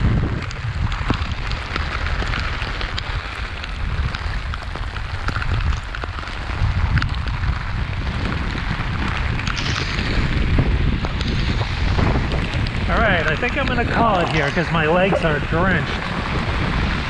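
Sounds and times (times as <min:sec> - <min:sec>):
heavy rain on umbrella: 0:00.0 - 0:17.0
wind rumbling on microphone: 0:00.0 - 0:17.0.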